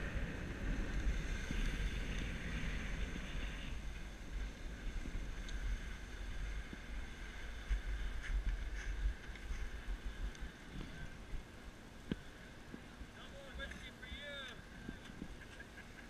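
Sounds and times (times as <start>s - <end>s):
snowboard sliding over snow: 0.0s - 13.4s.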